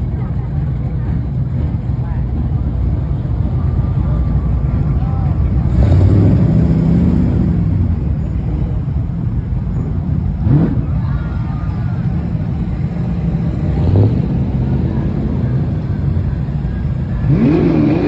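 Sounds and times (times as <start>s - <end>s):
car engines running past: 0.0s - 18.0s.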